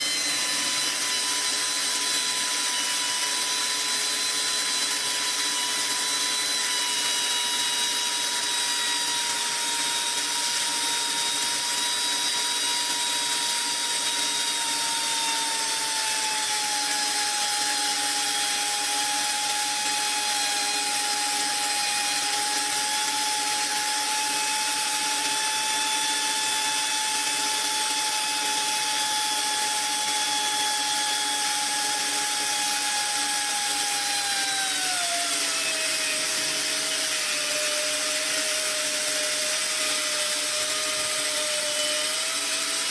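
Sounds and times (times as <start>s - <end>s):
metal lathe whining: 0.0s - 42.9s.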